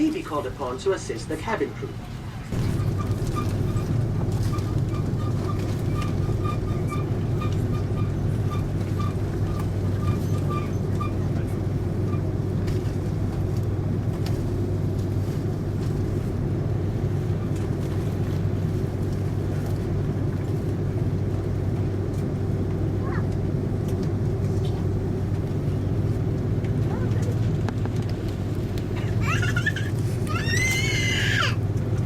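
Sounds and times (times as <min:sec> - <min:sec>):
air-conditioning noise: 0:00.0 - 0:32.0
airliner cabin engine drone: 0:00.0 - 0:32.0.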